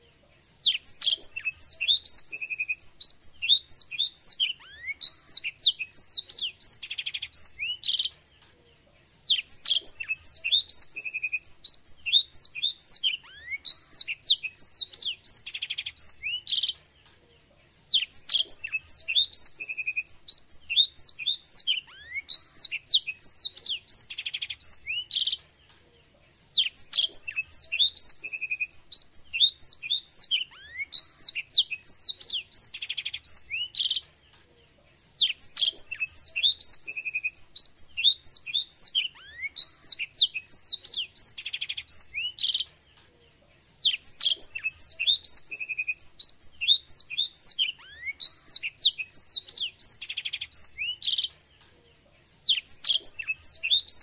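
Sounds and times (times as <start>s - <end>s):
bird singing with rapid twittering: 0.0s - 54.0s.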